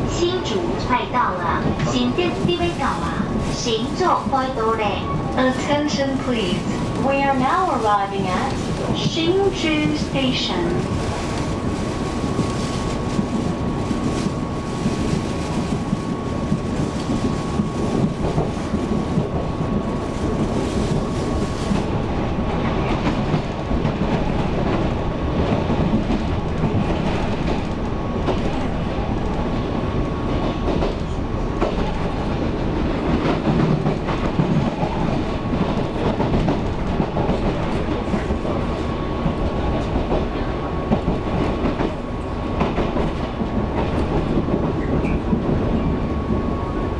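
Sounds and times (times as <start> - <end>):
train wheel-on-rail rumble: 0.0 - 46.9
clickety-clack over rail joints: 0.2 - 46.9.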